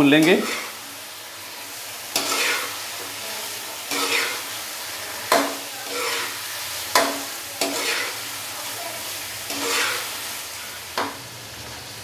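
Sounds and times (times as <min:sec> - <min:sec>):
frying sizzle: 0:00.0 - 0:12.0
metal spatula scraping a pan: 0:00.2 - 0:11.2.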